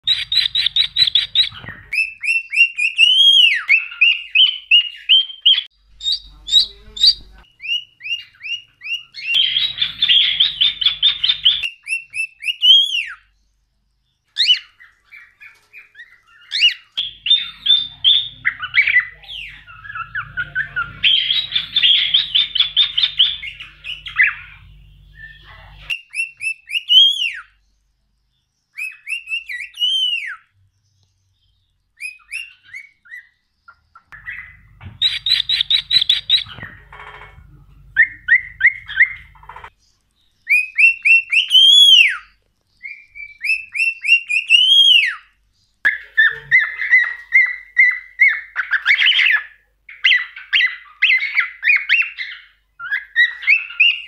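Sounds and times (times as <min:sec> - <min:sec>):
cockatiels whistling: 0:00.0 - 0:13.3, 0:14.4 - 0:27.6, 0:28.8 - 0:30.5, 0:32.0 - 0:33.4, 0:34.2 - 0:36.9, 0:37.9 - 0:39.5, 0:40.4 - 0:45.3, 0:45.9 - 0:54.0.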